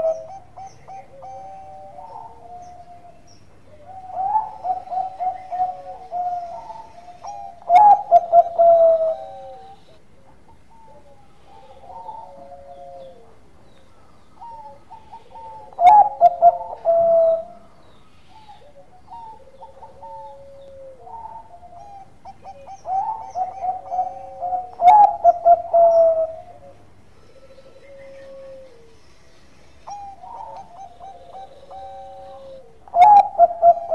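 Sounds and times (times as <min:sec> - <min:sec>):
dove cooing: 0:00.0 - 0:29.1, 0:29.8 - 0:33.9.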